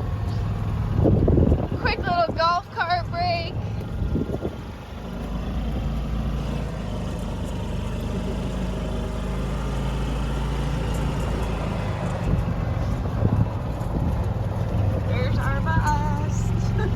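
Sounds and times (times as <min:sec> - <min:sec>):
vehicle engine humming: 0:00.0 - 0:16.9.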